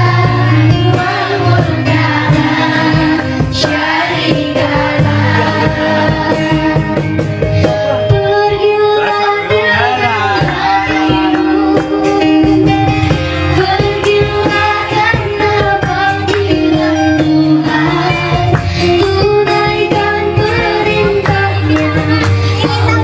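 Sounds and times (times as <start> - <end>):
electronic keyboard: 0.0 - 23.0
steady beat: 0.0 - 23.0
woman singing into microphone: 0.0 - 23.0.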